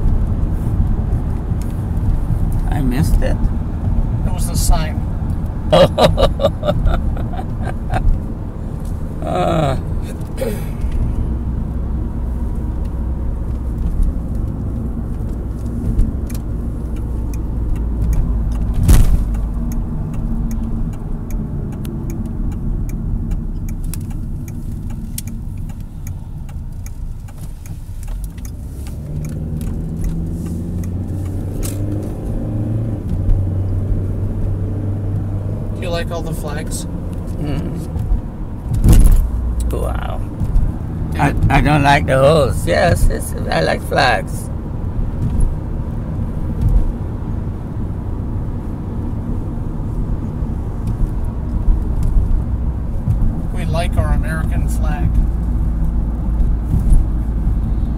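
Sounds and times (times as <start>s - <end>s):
car cabin road and engine noise: 0.0s - 57.9s.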